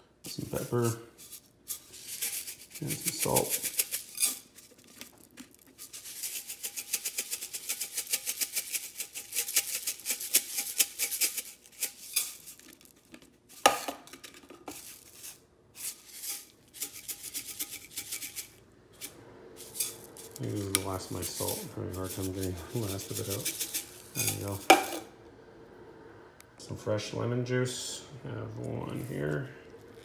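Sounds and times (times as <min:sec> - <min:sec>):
salt container rattling: 0:00.3 - 0:25.0.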